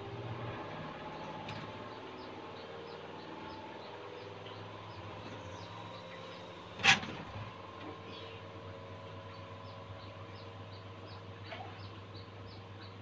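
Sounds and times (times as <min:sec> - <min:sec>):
steady low hum: 0:00.0 - 0:13.0
small bird chirping: 0:01.0 - 0:06.8, 0:07.8 - 0:13.0.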